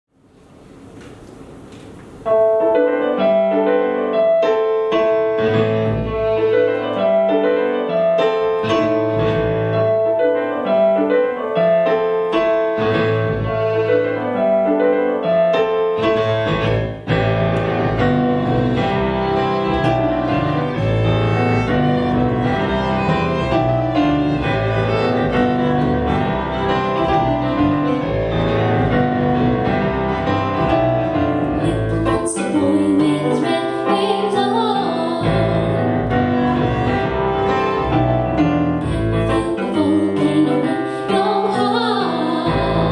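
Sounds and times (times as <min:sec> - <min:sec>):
electric keyboard: 0:00.7 - 0:42.9
violin: 0:04.9 - 0:42.9.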